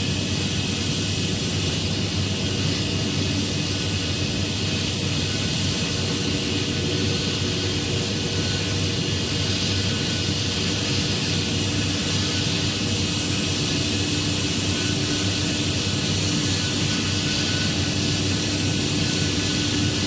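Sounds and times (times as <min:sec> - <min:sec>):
jet airliner engine noise: 0:00.0 - 0:20.0.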